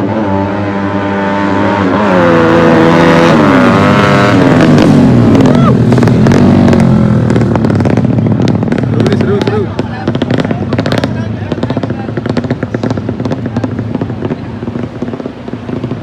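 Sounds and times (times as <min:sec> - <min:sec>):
racing motorcycle engines: 0:00.0 - 0:16.0
engine crackles: 0:01.8 - 0:16.0.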